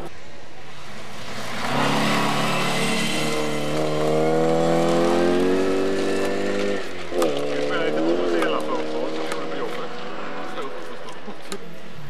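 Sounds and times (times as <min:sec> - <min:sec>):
rally car engine accelerating: 0:01.1 - 0:12.0.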